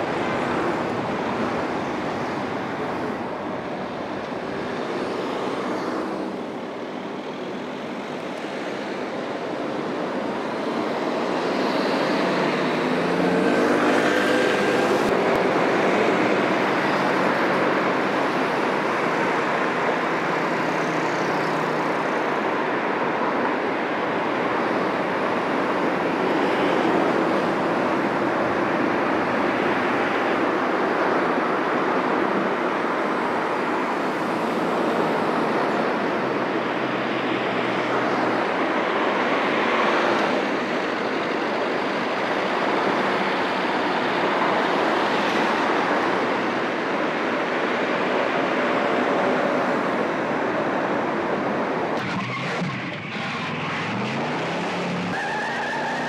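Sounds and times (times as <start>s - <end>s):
tyre and road noise: 0.0s - 56.0s.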